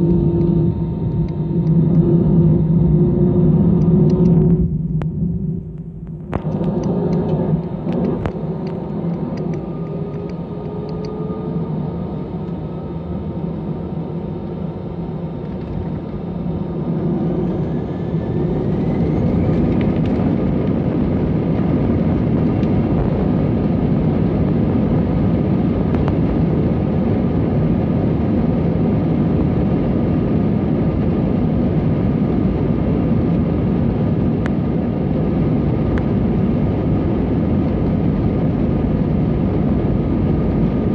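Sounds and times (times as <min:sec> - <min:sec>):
jet engines rumbling and whining: 0:00.0 - 0:40.9.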